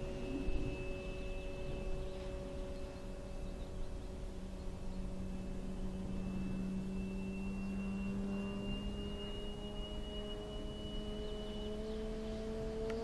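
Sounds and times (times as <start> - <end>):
electric motor whine: 0.0 - 13.0
model airplane propeller drone: 0.0 - 13.0.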